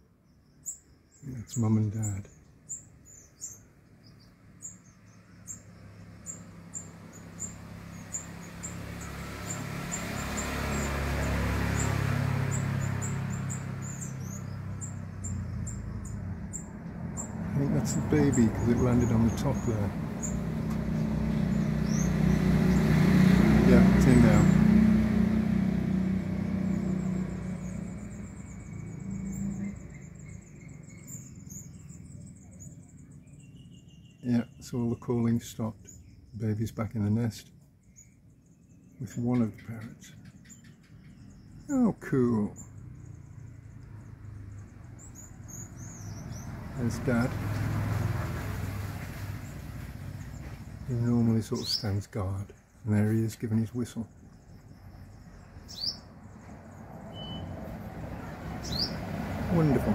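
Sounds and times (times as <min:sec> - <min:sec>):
birds high thin chirps: 0:00.0 - 0:59.9
vehicle engine passing: 0:04.5 - 0:34.0, 0:39.0 - 0:59.9.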